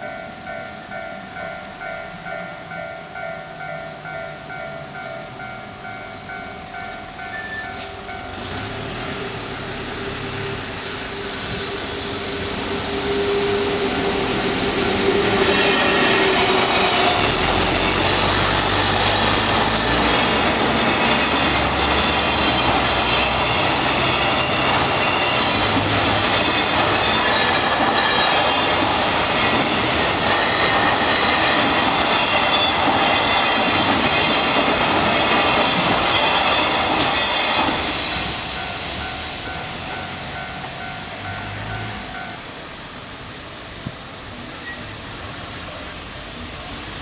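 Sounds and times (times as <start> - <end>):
level crossing warning bell: 0.0 - 9.0, 13.8 - 42.8
train passing rumble: 0.0 - 47.0.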